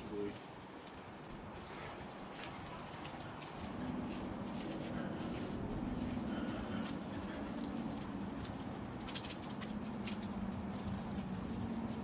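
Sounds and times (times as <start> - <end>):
water spray on brick wall: 0.0 - 12.0.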